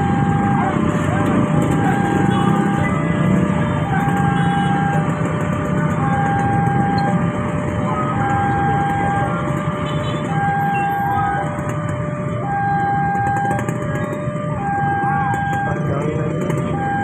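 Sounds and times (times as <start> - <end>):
level crossing two-tone alarm: 0.0 - 17.0
motorbike engines running: 0.0 - 17.0.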